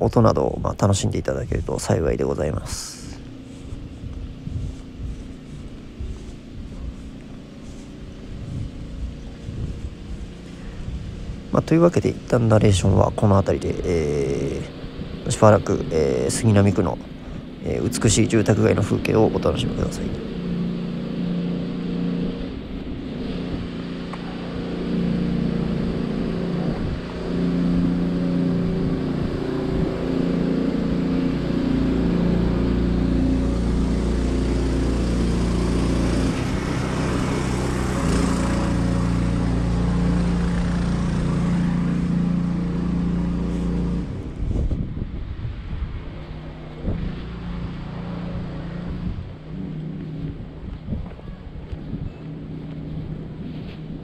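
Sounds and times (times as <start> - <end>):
hum changing pitch: 0.0 - 54.0
wind rumbling on microphone: 0.0 - 54.0.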